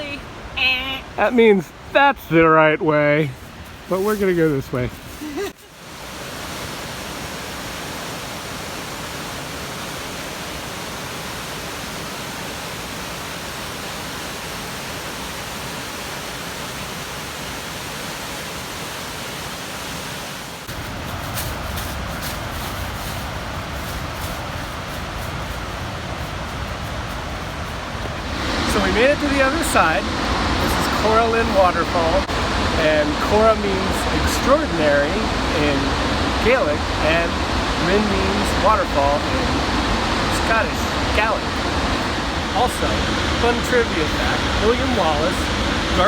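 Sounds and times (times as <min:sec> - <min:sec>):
waterfall rushing: 0:05.3 - 0:46.0.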